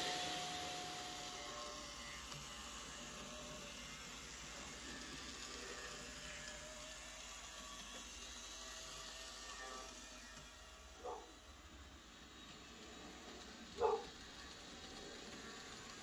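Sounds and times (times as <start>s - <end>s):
faint whir: 0.0s - 16.0s.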